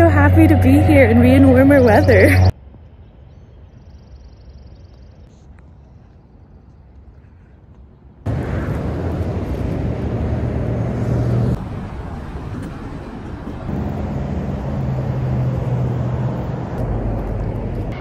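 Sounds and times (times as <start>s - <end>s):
road traffic passing: 0.0s - 3.2s, 5.3s - 18.0s.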